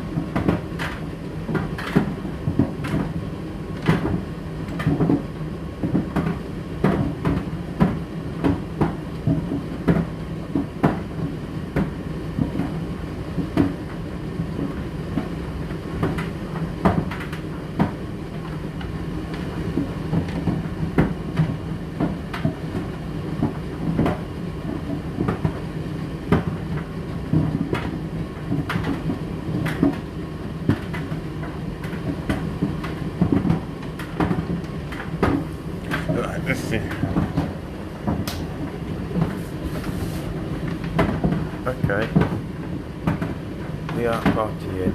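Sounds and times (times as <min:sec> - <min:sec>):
tumble dryer motor hum: 0:00.0 - 0:44.9.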